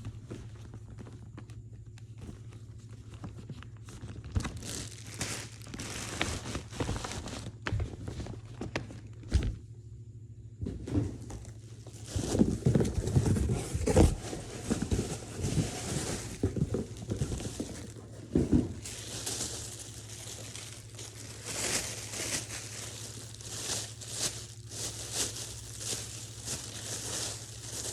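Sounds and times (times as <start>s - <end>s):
packaging crinkling and rustling: 0.0s - 9.3s, 11.2s - 27.9s.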